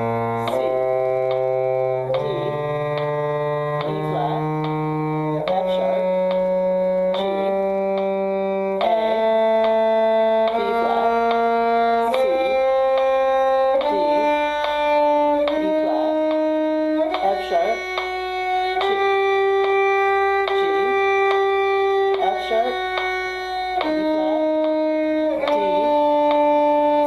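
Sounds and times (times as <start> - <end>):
bowed string instrument playing scale: 0.0 - 27.0.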